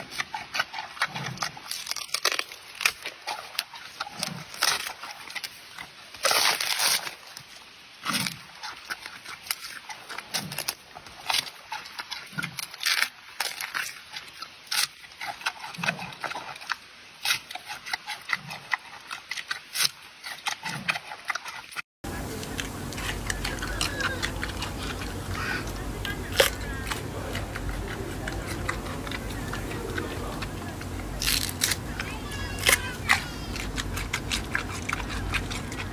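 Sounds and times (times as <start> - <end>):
panda crunching bamboo: 0.0 - 35.9.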